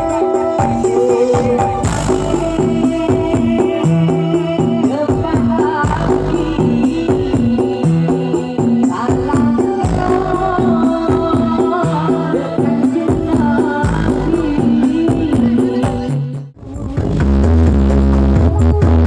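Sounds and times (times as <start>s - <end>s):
loud music with steady beat: 0.0s - 19.0s.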